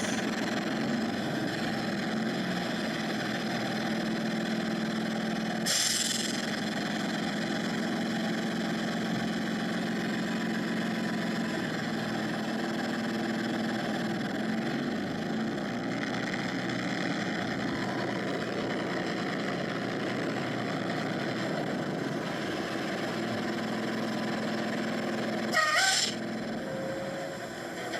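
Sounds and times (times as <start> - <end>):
diesel bus engine running: 0.0 - 27.9.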